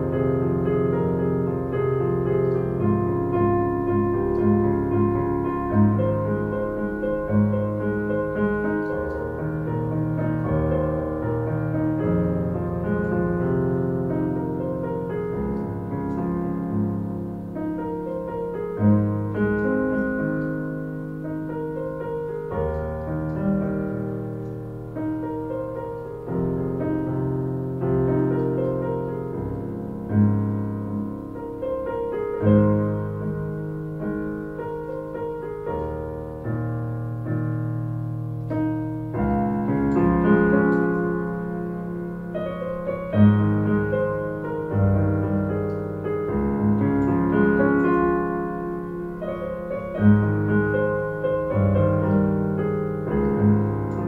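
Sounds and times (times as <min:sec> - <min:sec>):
keyboard playing piano melody: 0:00.0 - 0:54.0.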